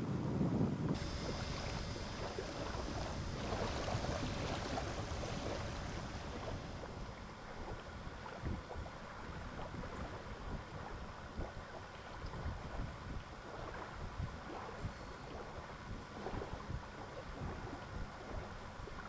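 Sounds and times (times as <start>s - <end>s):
wind buffeting microphone: 0.0s - 19.0s
water lapping around a kayak: 0.2s - 19.0s.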